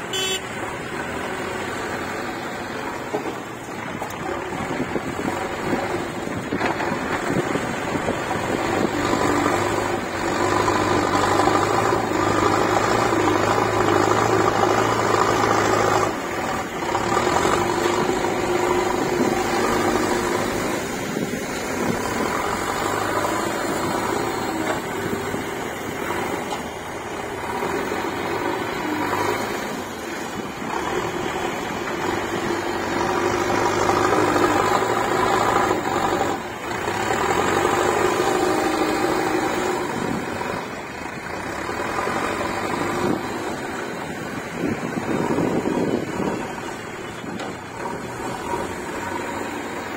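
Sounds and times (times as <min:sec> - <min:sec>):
diesel engine revving: 0:00.0 - 0:49.9.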